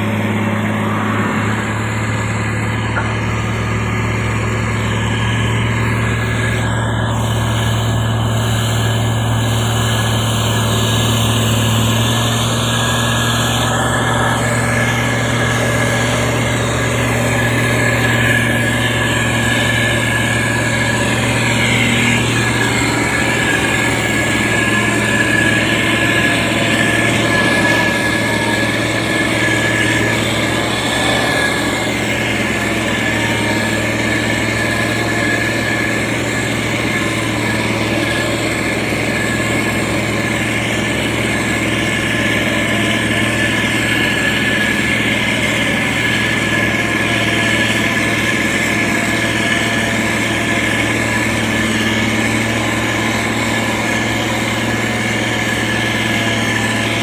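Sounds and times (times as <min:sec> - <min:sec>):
diesel engine running: 0:00.0 - 0:57.0
high-pitched whine: 0:00.0 - 0:57.0.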